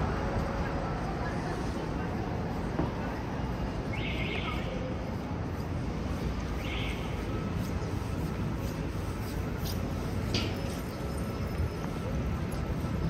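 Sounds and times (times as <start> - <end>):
low rumble of city traffic: 0.0 - 13.0.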